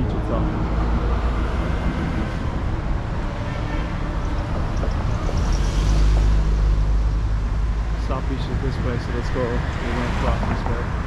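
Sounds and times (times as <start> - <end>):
low traffic rumble: 0.0 - 11.0.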